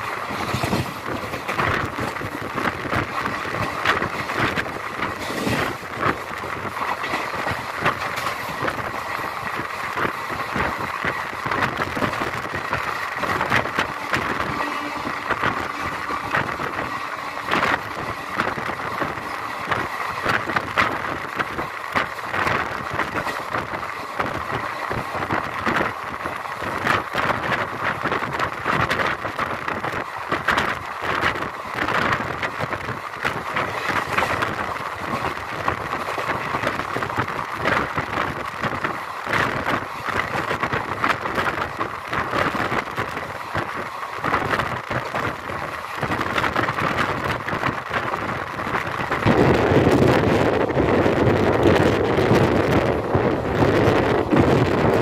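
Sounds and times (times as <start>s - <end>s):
train running on track: 0.0s - 55.0s.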